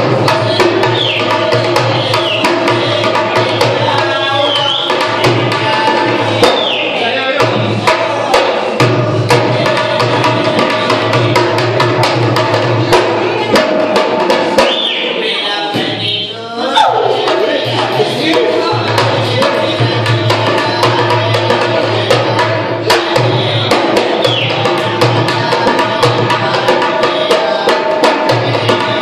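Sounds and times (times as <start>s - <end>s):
hand drum rhythm: 0.0s - 16.0s, 16.6s - 29.0s.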